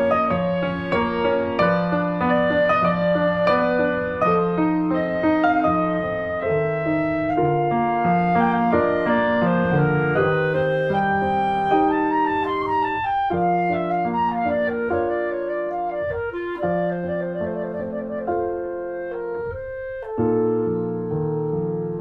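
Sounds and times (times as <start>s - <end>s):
piano: 0.0s - 22.0s
woodwind melody: 0.0s - 22.0s.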